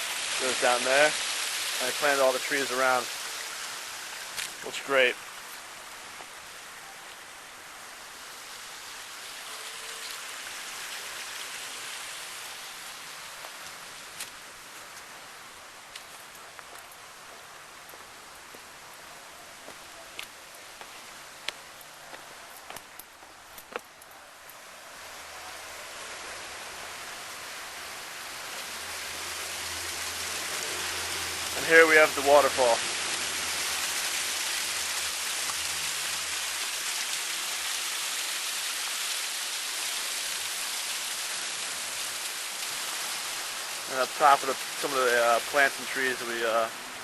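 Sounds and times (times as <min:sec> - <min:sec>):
water splashing down waterfall: 0:00.0 - 0:23.8, 0:24.5 - 0:47.0.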